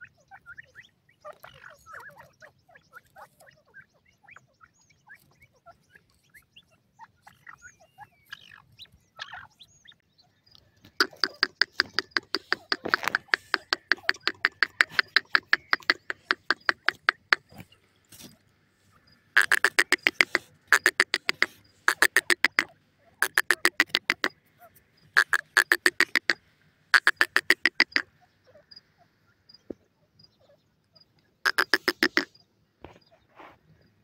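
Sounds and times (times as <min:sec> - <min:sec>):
francolin calling: 0:00.0 - 0:32.5.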